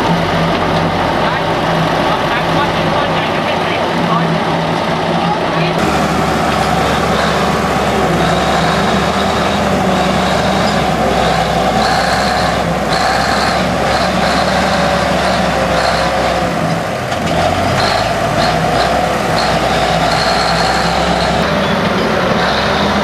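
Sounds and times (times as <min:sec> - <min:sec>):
heavy engine running: 0:00.0 - 0:23.0.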